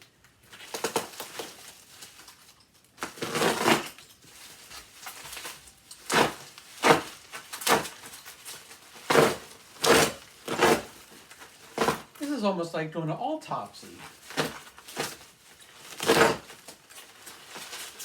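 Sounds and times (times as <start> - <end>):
tape ripping and crinkling: 0.0 - 12.4, 13.8 - 18.0
plastic packing rustling: 0.0 - 12.6, 13.5 - 18.0.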